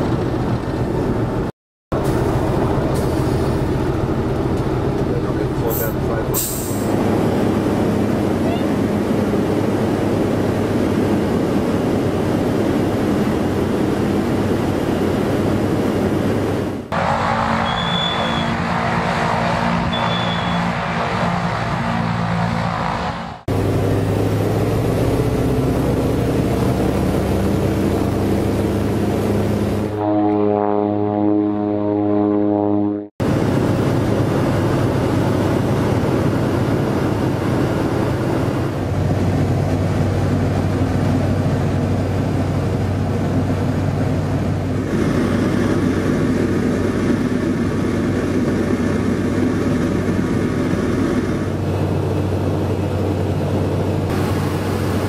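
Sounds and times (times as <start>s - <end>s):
aircraft radial engine drone: 0.0s - 55.0s.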